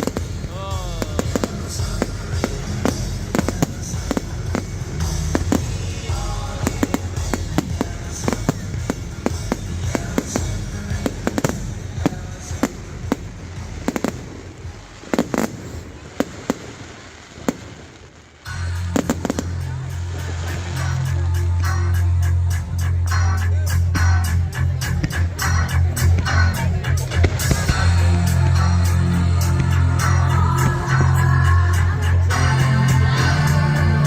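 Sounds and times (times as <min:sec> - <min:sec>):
loud music: 0:00.0 - 0:16.5, 0:18.5 - 0:34.0
fireworks banging and crackling: 0:00.0 - 0:22.5, 0:23.8 - 0:34.0.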